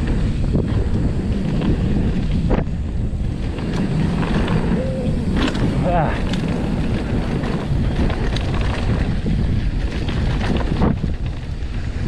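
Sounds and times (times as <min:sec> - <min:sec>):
bike knocks and rattles: 0:00.0 - 0:12.0
tyres rumbling on dirt trail: 0:00.0 - 0:12.0
wind buffeting microphone: 0:00.0 - 0:12.0.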